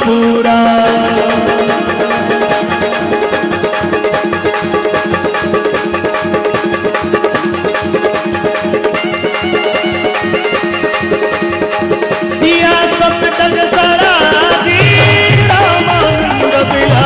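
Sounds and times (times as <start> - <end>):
hand percussion beat: 0.0 - 17.0
harmonium melody: 0.0 - 17.0.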